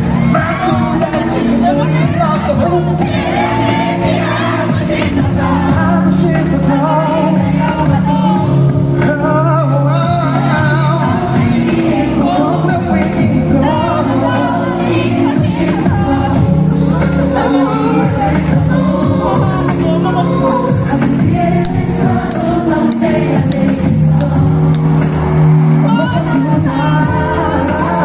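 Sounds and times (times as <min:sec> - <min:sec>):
live pop backing track: 0:00.0 - 0:28.0
person singing: 0:00.0 - 0:28.0.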